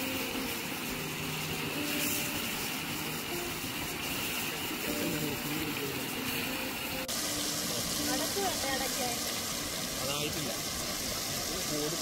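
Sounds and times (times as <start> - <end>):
prawns deep-frying in oil: 0.0 - 12.0.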